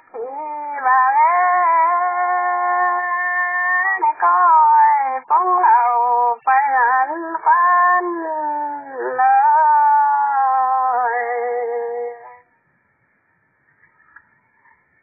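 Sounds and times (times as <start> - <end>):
person singing folk song: 0.0 - 12.5.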